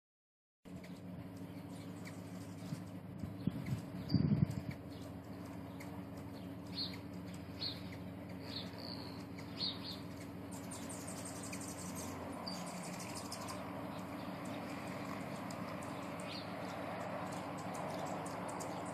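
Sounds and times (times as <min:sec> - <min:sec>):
hummingbird chips and chatter: 0:00.7 - 0:18.9
low hum: 0:00.7 - 0:18.9.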